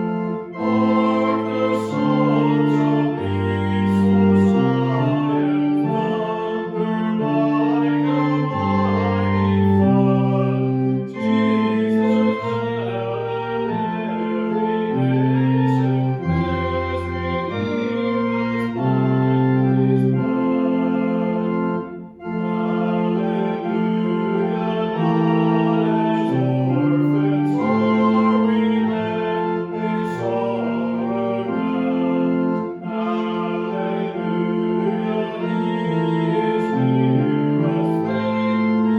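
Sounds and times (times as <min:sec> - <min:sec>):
organ playing a hymn: 0:00.0 - 0:38.9.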